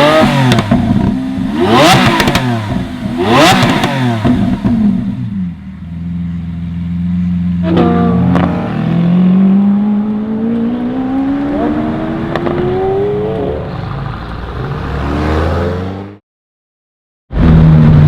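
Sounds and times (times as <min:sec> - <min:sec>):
car engine accelerating: 0:00.0 - 0:16.2.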